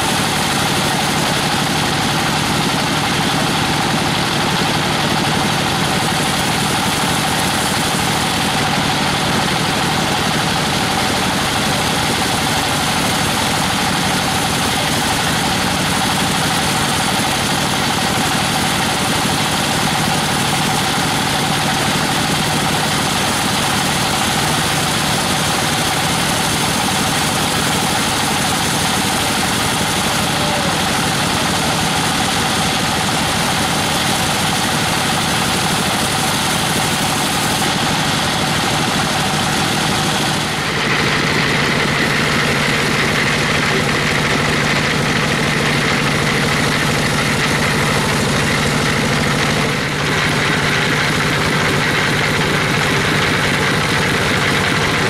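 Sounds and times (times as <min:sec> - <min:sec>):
band saw cutting through log: 0:00.0 - 0:55.0.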